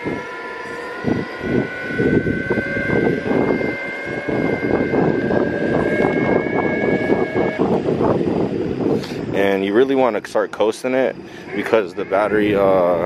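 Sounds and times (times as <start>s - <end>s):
electric motor whine: 0.0s - 13.0s
wind buffeting microphone: 0.0s - 13.0s.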